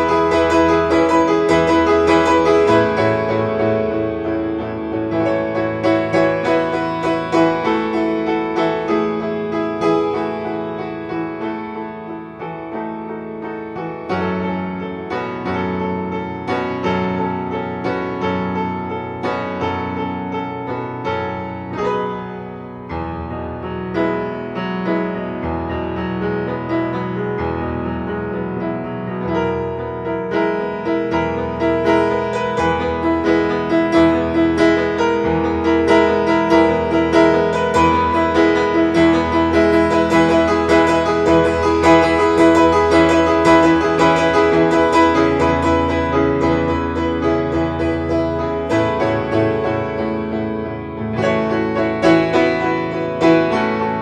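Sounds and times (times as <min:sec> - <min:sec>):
solo acoustic piano: 0:00.0 - 0:54.0.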